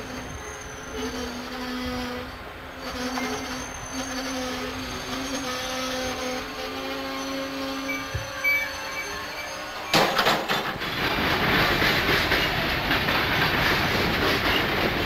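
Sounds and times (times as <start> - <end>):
low train whine: 0.0 - 15.0
passenger train cars rolling past: 0.0 - 15.0.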